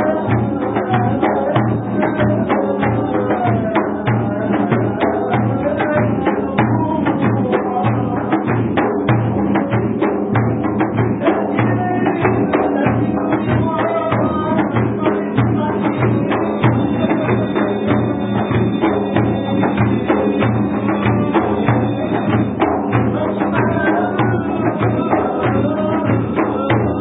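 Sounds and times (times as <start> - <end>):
steady drum beat: 0.0 - 27.0.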